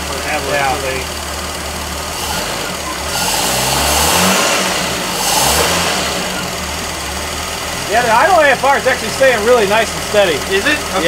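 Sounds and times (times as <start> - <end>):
engine idling unevenly: 0.0 - 11.0.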